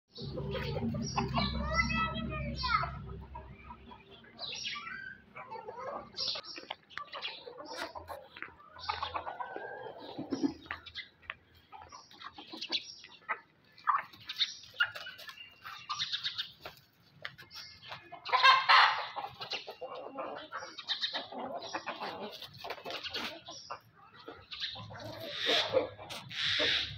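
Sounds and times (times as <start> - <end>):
chickens clucking and squawking: 0.1 - 26.9.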